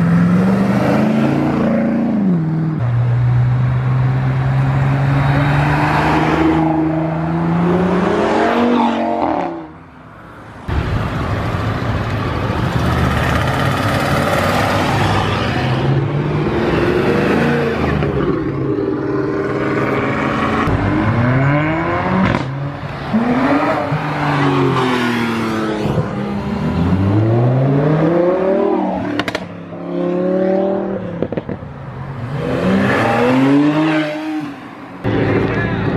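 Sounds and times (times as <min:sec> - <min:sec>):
car engines accelerating hard: 0:00.0 - 0:09.7, 0:10.8 - 0:35.9.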